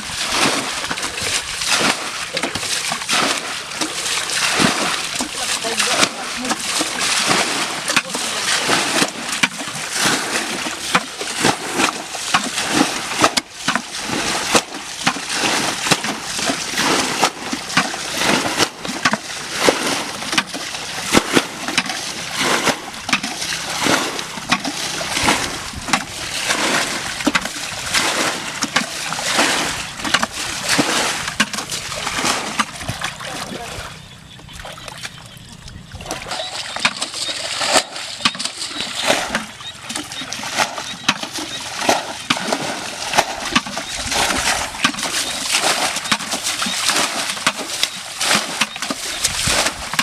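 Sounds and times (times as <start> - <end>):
short sharp splashes: 0.0 - 35.2, 35.9 - 50.0
water splashing and sloshing: 0.0 - 50.0.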